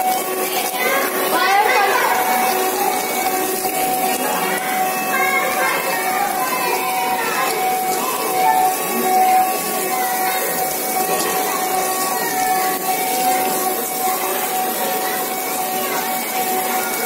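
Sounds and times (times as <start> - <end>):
fire hoses spraying water: 0.0 - 17.0
water pump humming: 0.0 - 17.0.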